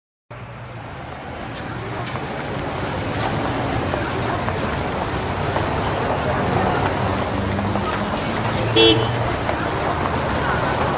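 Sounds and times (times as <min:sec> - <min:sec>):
motor traffic rumble: 0:00.3 - 0:10.9
street noise: 0:00.3 - 0:10.9.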